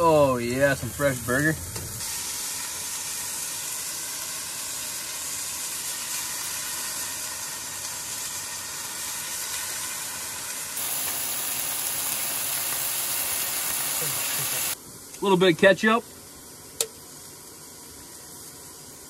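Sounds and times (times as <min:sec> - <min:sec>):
patty sizzling in frying pan: 0:00.0 - 0:15.1, 0:16.1 - 0:19.0.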